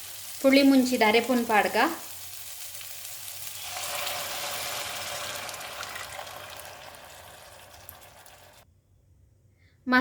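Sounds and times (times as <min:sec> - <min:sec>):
masala sizzling in a pan: 0:00.0 - 0:08.7.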